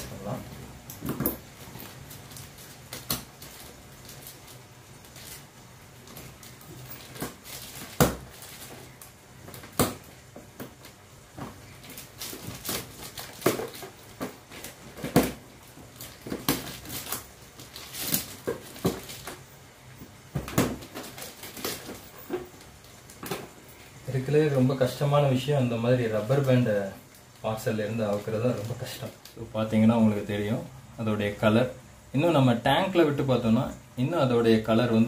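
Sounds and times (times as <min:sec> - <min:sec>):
plastic bag crinkling: 0:00.0 - 0:29.9.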